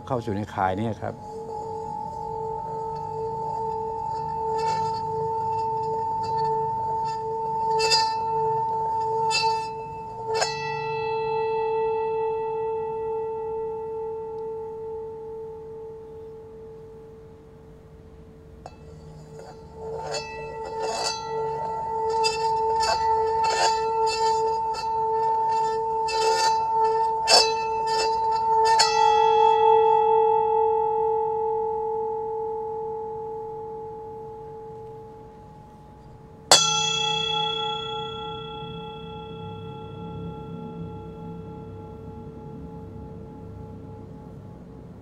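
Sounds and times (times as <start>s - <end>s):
singing bowl humming: 0.0s - 45.0s
singing bowl ringing: 0.0s - 45.0s.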